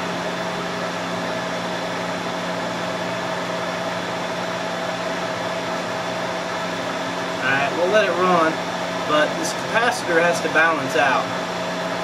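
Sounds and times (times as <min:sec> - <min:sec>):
electric motor humming and whining: 0:00.0 - 0:12.0.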